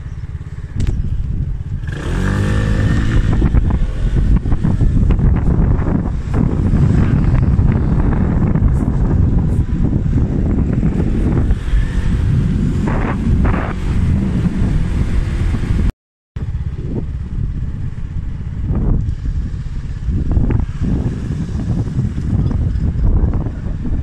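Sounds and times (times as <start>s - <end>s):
road noise: 0.0s - 24.0s
scooter engine: 0.0s - 24.0s
wind buffeting microphone: 0.0s - 24.0s.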